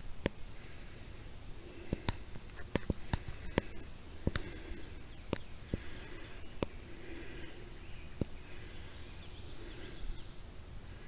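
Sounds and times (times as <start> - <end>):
steady high hum: 0.0 - 11.0.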